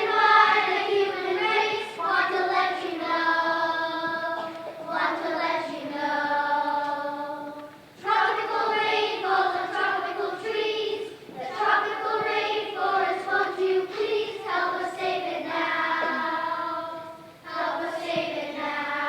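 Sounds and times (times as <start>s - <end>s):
young children singing: 0.0s - 19.0s.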